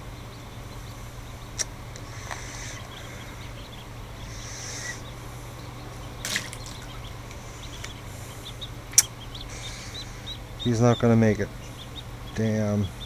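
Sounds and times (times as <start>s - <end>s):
ducklings peeping: 0.0s - 13.0s
low steady hum: 0.0s - 13.0s.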